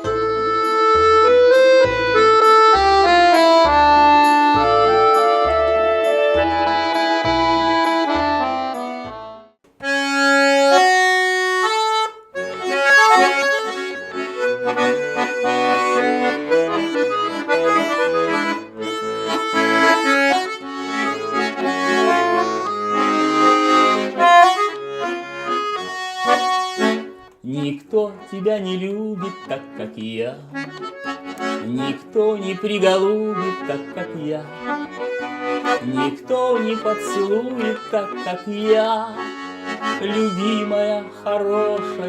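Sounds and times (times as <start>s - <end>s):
accordion playing: 0.0s - 42.0s.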